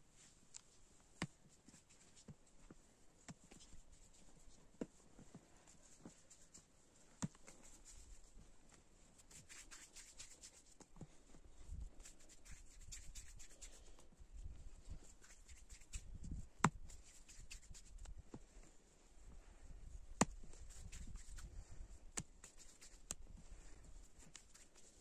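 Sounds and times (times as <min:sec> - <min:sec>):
hands rubbing and patting dough: 0:00.2 - 0:14.1, 0:14.8 - 0:18.6, 0:20.2 - 0:25.0.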